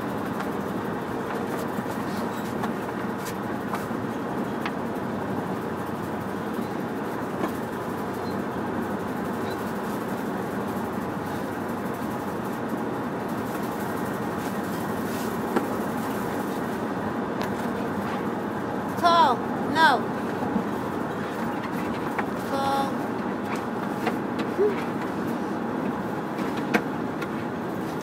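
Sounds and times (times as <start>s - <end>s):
road and engine noise in van: 0.0s - 28.0s.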